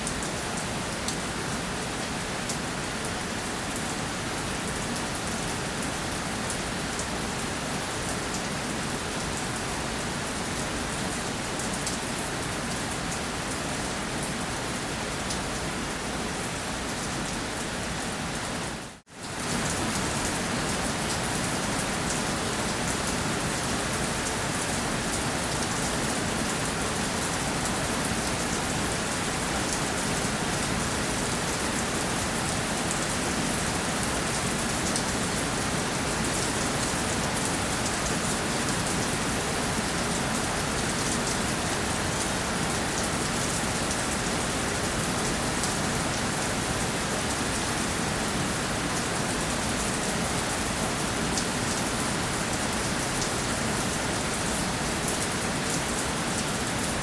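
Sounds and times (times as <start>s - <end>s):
rain hissing on a surface: 0.0s - 57.0s.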